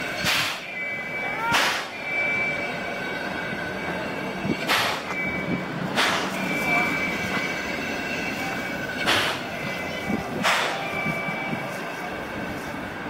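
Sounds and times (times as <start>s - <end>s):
steam train high squeal: 0.0s - 13.0s.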